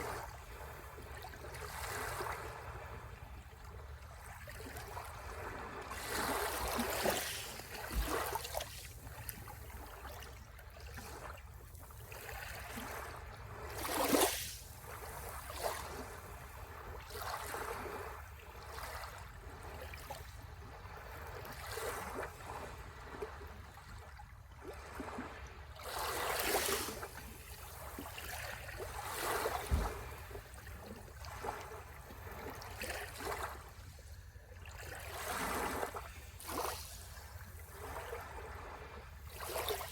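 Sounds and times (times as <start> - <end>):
sea waves washing ashore: 0.0 - 10.2, 11.4 - 19.1, 24.9 - 34.2, 34.9 - 39.9.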